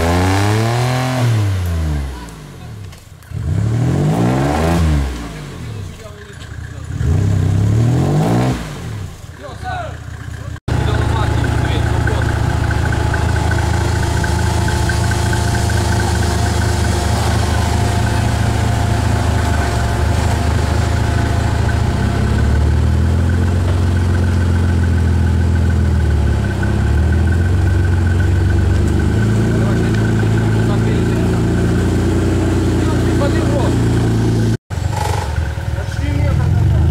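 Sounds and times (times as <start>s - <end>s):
off-road buggy engine under load: 0.0s - 36.9s.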